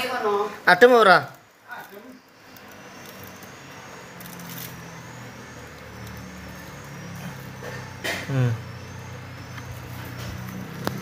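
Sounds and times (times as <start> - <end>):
refrigerator compressor humming: 0.0 - 11.0.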